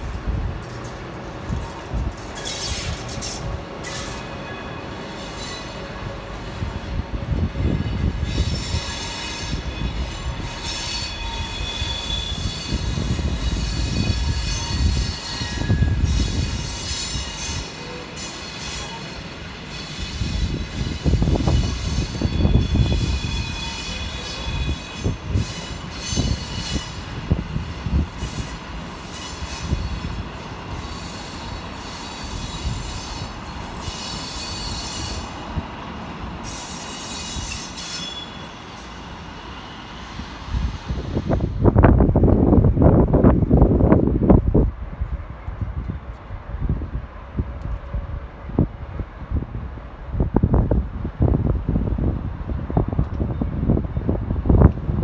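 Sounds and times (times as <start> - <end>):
train wheels squealing on rails: 0.0 - 42.5, 52.5 - 55.0.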